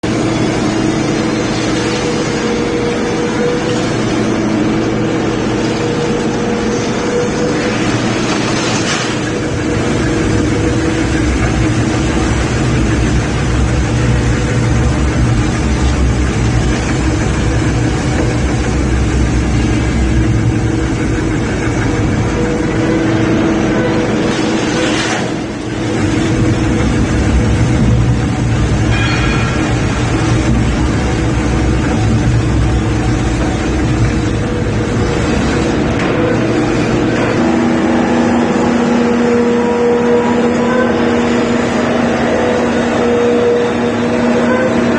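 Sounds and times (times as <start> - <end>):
metal shredder motor humming: 0.0 - 44.9.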